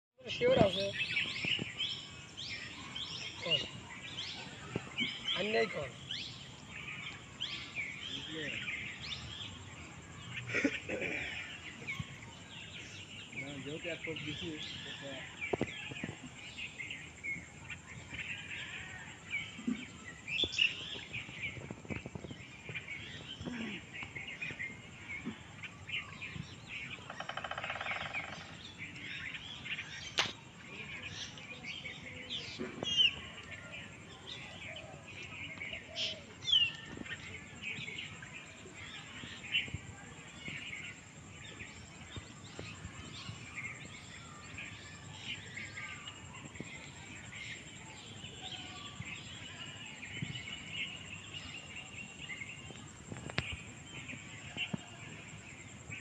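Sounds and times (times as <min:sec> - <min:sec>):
songbirds chirping: 0:00.2 - 0:56.0.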